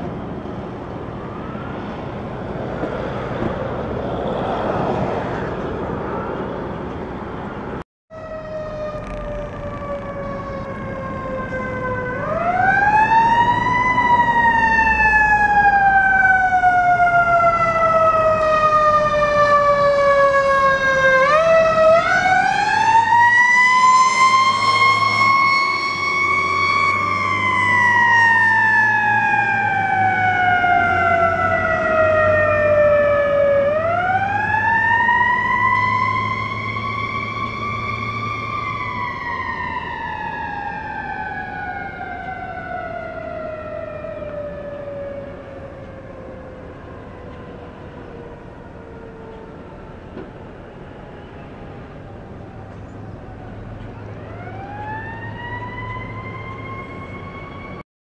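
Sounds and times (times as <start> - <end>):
fire engine siren wailing: 0.0 - 57.8.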